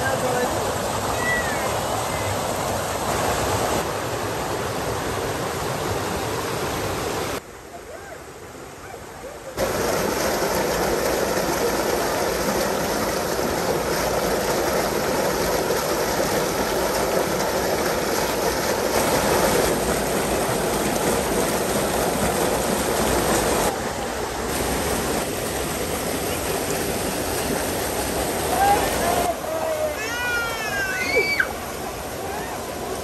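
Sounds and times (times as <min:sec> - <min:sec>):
waterfall rushing over boulders: 0:00.0 - 0:33.0.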